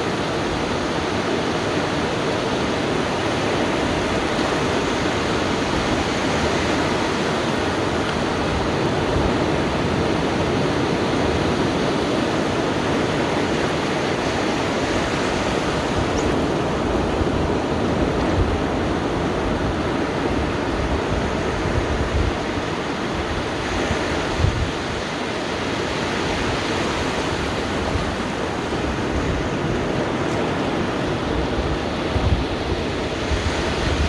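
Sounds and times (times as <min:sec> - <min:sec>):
waves breaking on beach: 0:00.0 - 0:34.0
wind buffeting microphone: 0:00.0 - 0:34.0.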